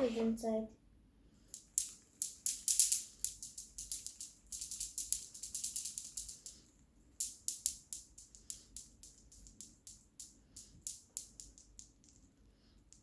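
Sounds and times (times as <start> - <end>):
fidget toy rattling: 1.5 - 13.0.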